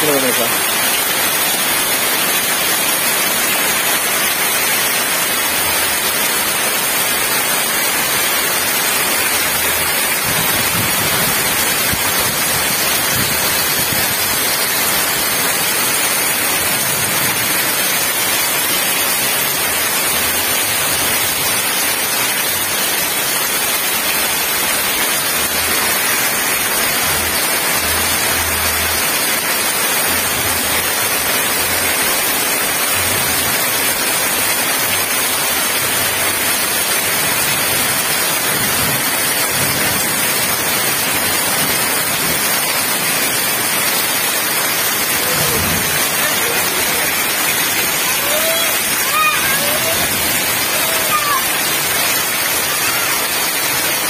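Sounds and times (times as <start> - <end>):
heavy rain on pavement and roofs: 0.0 - 54.0
runoff pouring off eaves: 0.0 - 54.0.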